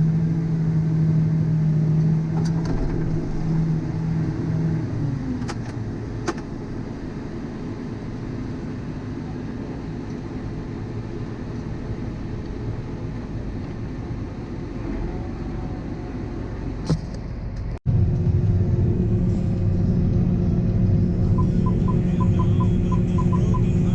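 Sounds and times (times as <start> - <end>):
heavy vehicle engine rumbling: 0.0 - 23.9.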